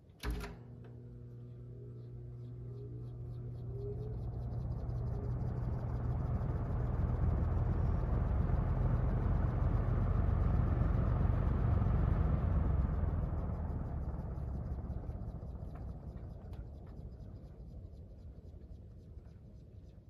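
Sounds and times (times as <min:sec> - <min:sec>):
box fan humming with rushing air: 0:00.0 - 0:19.2.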